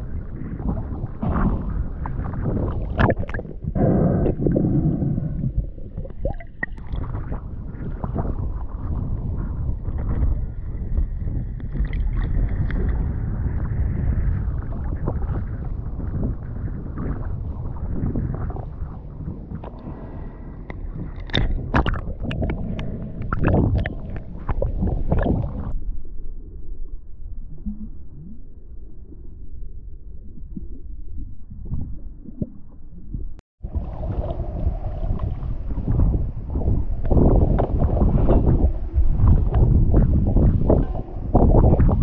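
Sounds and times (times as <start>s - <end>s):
low rumble: 0.0s - 42.0s
water gurgling and sloshing: 0.0s - 42.0s.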